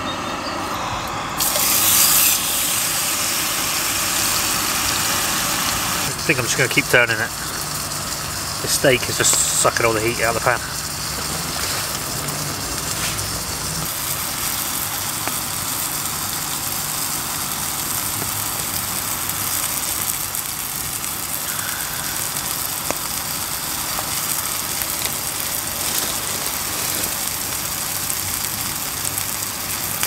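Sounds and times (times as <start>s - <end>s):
gas burner running: 0.0s - 30.0s
steak sizzling in a pan: 1.4s - 30.0s.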